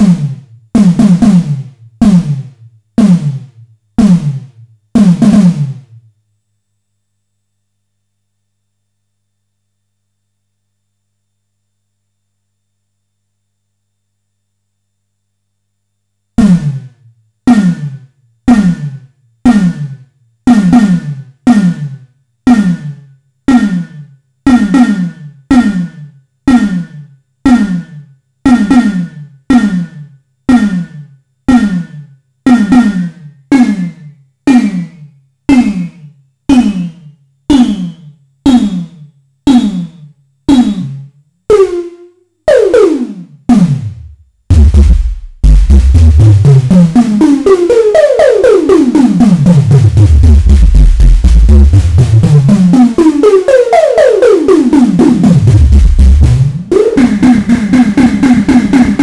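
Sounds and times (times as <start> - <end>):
electronic snare drum hits: 0.0 - 6.0, 16.4 - 59.0.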